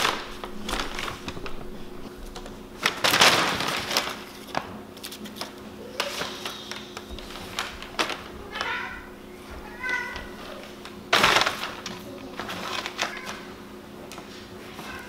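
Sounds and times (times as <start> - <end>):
paper crinkling and rustling: 0.0 - 15.0.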